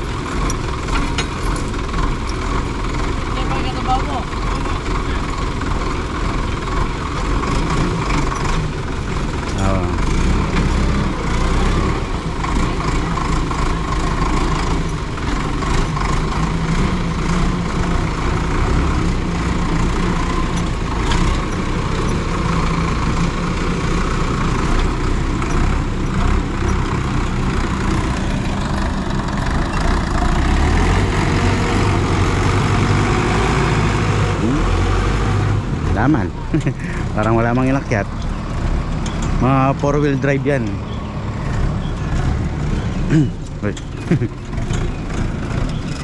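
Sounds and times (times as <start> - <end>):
deep engine rumble: 0.0 - 46.0
tractor diesel engines under load: 0.0 - 46.0.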